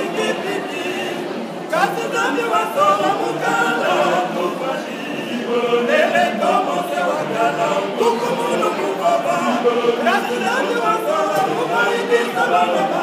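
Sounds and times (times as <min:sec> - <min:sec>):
men's choir singing a hymn: 0:00.0 - 0:13.0.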